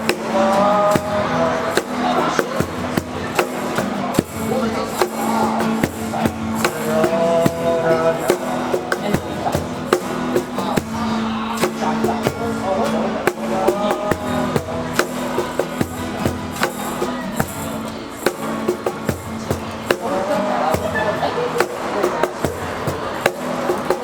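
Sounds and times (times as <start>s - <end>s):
guitar and drum band playing: 0.0s - 24.0s.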